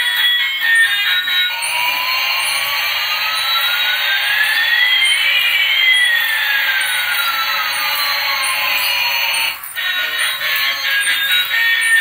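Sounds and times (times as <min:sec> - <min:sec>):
toy jet sound effect whoosh: 0:01.5 - 0:11.6.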